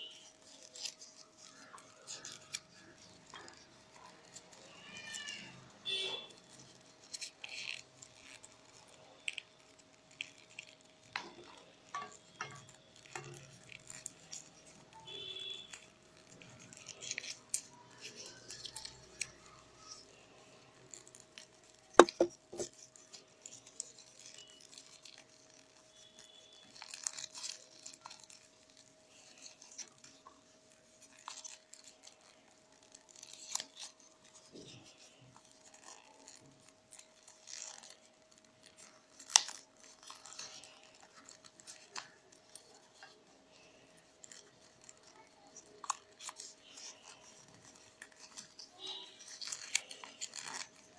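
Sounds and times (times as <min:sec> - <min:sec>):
newspaper rustling and crinkling: 0:00.0 - 0:50.9.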